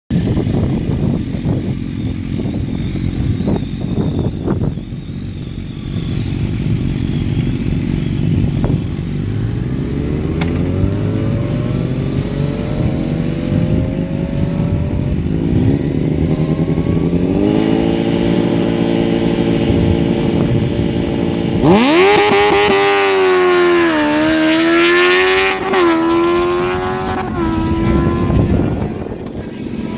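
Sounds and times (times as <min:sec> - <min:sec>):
motorcycle accelerating away: 0:00.1 - 0:29.9
motorcycle engine revving: 0:00.1 - 0:29.9.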